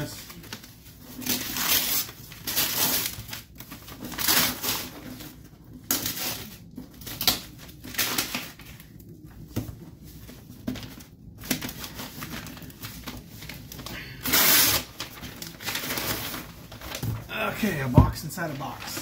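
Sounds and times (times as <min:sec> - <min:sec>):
paper tearing and crumpling: 0:00.0 - 0:09.2, 0:10.0 - 0:19.0.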